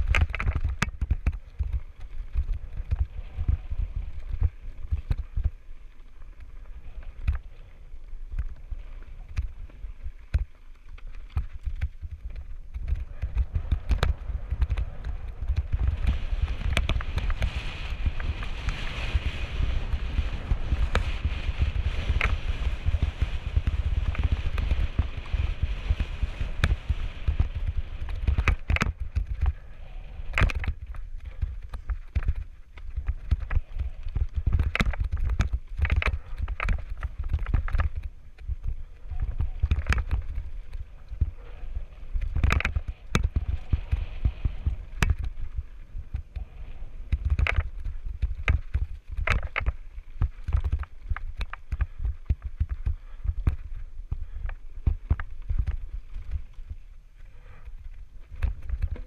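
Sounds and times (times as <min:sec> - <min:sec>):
bike rattling and knocking: 0:00.0 - 0:07.6, 0:08.3 - 0:29.7, 0:30.3 - 0:46.4, 0:47.0 - 0:59.0
wind rumbling on microphone: 0:00.0 - 0:59.0.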